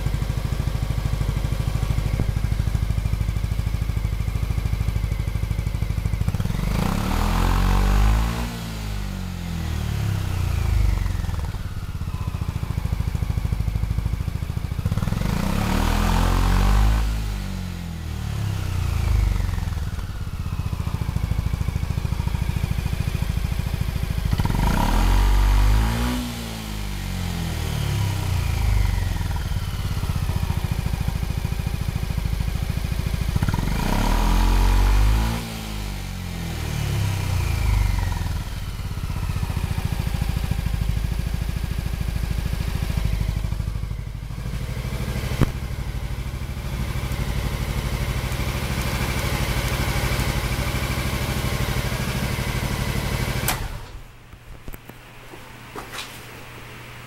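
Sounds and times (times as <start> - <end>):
scooter engine revving and idling: 0.0 - 54.2.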